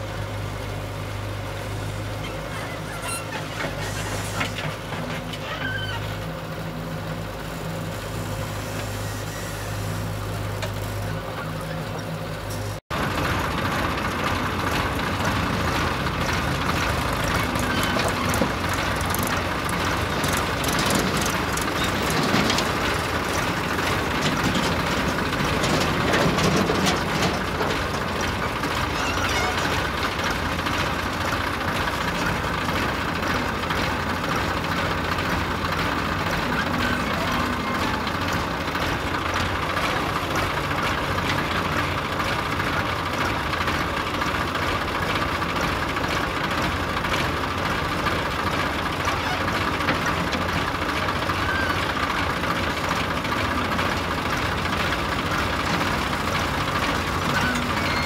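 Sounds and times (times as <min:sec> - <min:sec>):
backhoe diesel engine under load: 0:00.0 - 0:58.0
backhoe digging soil: 0:02.0 - 0:06.2, 0:07.9 - 0:58.0.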